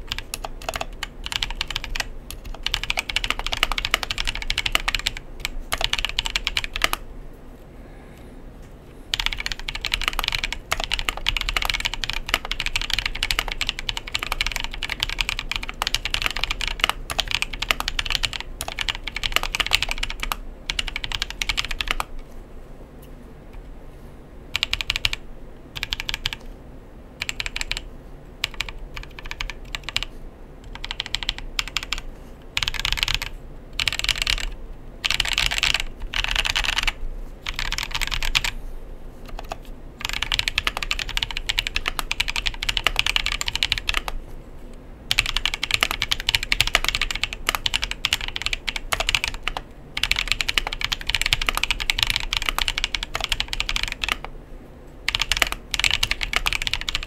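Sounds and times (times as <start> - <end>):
mechanical keyboard typing: 0.0 - 7.0, 9.1 - 22.2, 24.5 - 25.2, 25.8 - 26.5, 27.2 - 38.6, 39.3 - 44.2, 45.1 - 54.3, 55.0 - 57.0.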